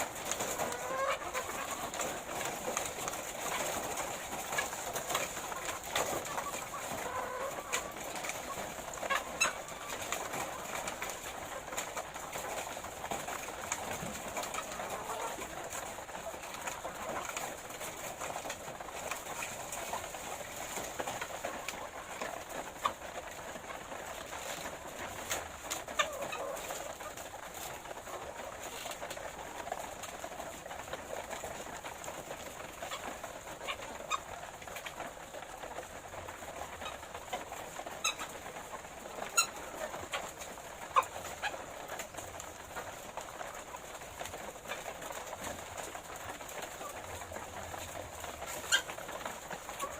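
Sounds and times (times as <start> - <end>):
hens clucking: 0.0 - 49.9.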